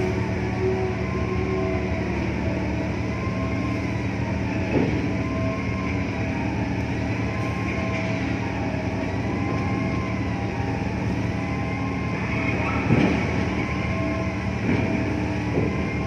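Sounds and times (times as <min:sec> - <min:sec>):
ship engine drone: 0:00.0 - 0:16.0.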